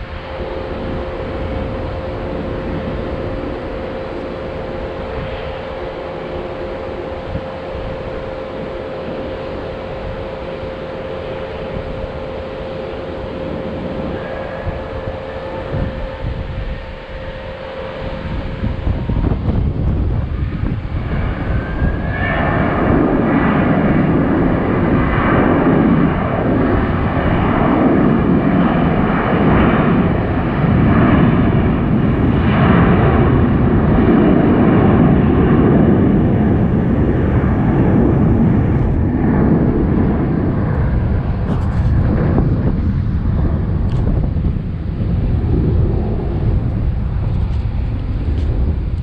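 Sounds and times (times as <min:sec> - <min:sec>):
jet engines running loud: 0:00.0 - 0:49.0.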